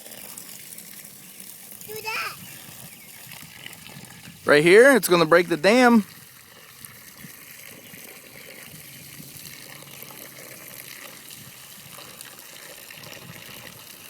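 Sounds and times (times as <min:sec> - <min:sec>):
hose pouring water: 0:00.0 - 0:14.0.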